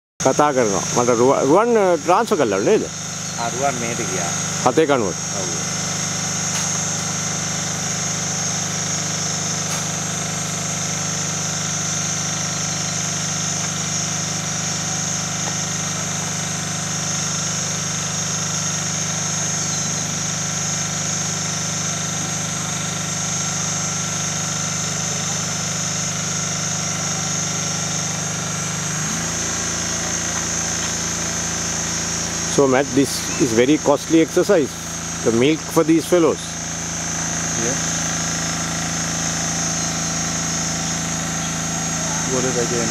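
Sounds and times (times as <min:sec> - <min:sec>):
steady high hiss: 0:00.2 - 0:22.4, 0:23.1 - 0:42.9
engine-like idling hum: 0:00.2 - 0:42.9.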